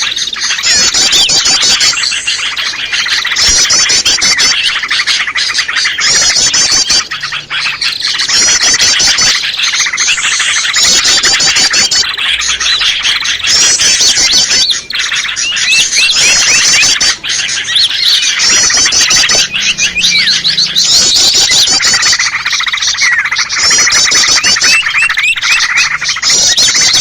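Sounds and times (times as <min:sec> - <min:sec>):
high-pitched bird trills: 0:00.0 - 0:27.0
songbirds chattering and chirping: 0:00.0 - 0:27.0.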